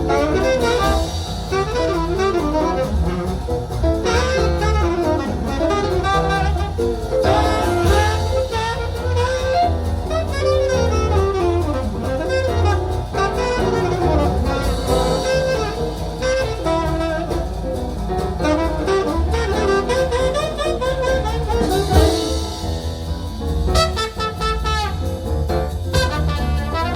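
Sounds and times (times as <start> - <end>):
jazz with saxophone lead: 0.0 - 26.9.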